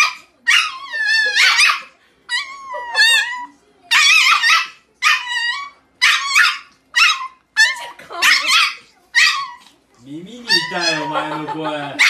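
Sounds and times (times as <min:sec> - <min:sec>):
small dog yapping: 0:00.0 - 0:09.7.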